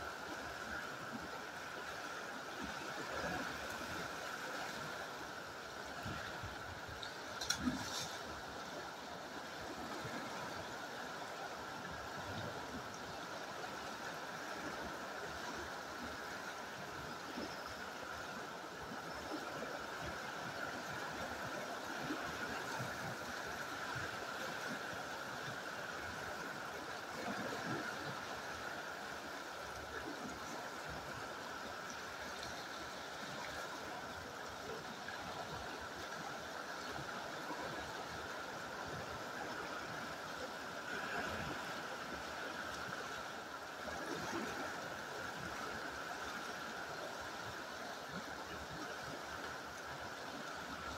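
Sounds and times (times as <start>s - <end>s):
river water rushing over rocks: 0.0s - 50.9s.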